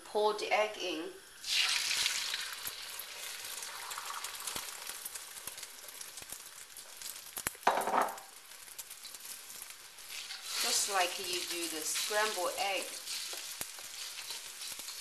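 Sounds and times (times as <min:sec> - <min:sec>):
eggs sizzling in oil: 0:00.8 - 0:15.0.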